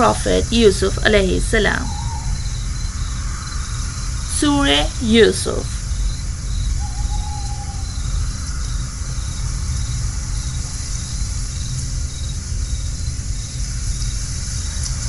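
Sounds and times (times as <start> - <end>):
crickets chirping: 0.0 - 15.0
steady low rumble: 0.0 - 15.0.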